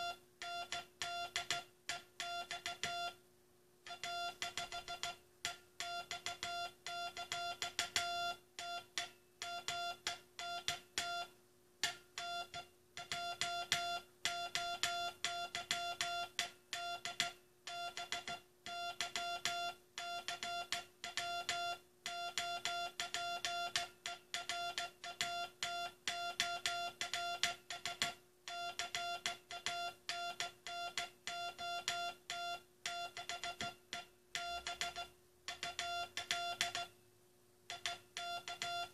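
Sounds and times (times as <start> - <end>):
morse code beeps: 0.0 - 3.2, 3.9 - 5.2, 5.8 - 11.3, 12.2 - 36.9, 37.7 - 38.9
faint steady hum: 0.0 - 38.9.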